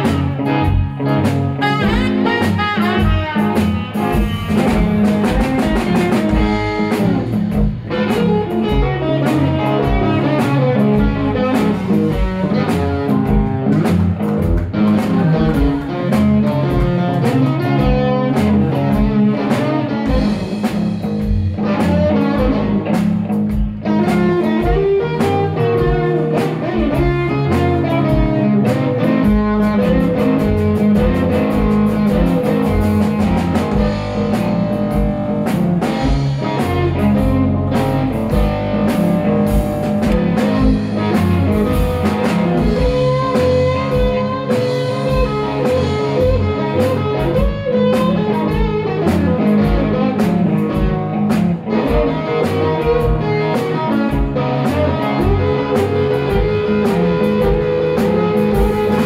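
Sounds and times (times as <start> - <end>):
drum kit hits: 0.0 - 59.0
electric bass walking: 0.0 - 59.0
electric guitar lead: 0.0 - 59.0.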